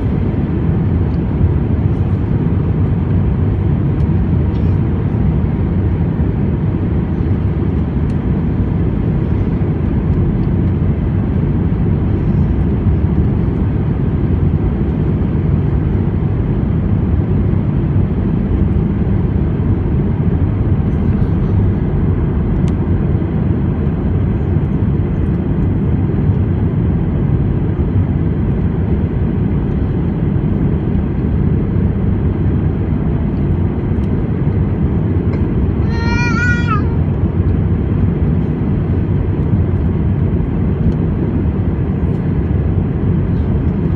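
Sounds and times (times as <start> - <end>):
airliner cabin engine noise: 0.0 - 43.9.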